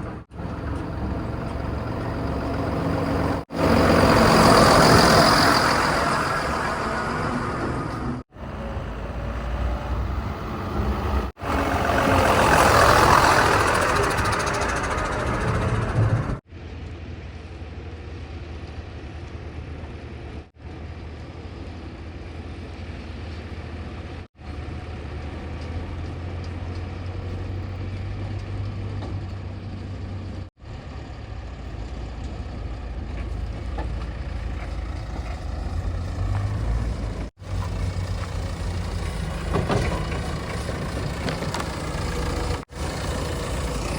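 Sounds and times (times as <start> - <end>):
diesel machinery and trucks running: 0.0 - 43.9.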